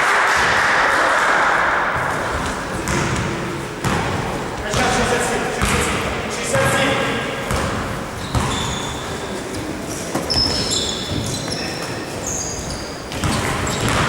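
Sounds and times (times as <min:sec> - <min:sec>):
echoing hall background noise: 0:00.0 - 0:14.0
sneakers squeaking: 0:02.0 - 0:14.0.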